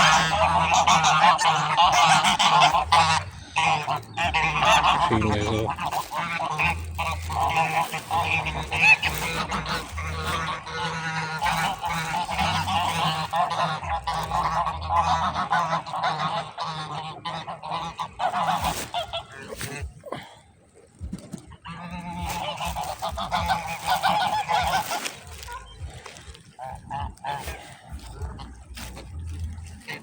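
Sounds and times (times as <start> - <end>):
waterfowl calling: 0.0 - 20.4, 21.4 - 30.0.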